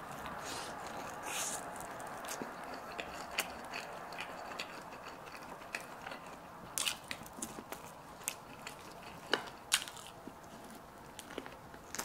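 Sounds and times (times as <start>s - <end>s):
meat chewing with mouth smacks: 0.1s - 12.0s.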